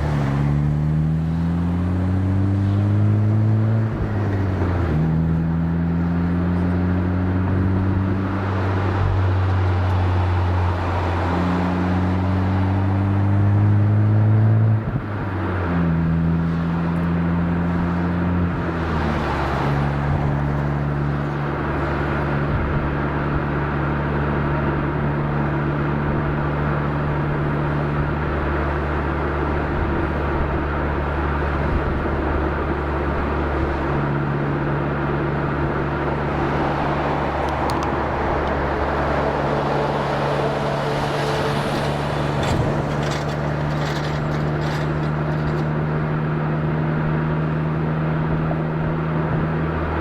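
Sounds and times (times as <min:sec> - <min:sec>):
car exhaust while driving: 0:00.0 - 0:50.0.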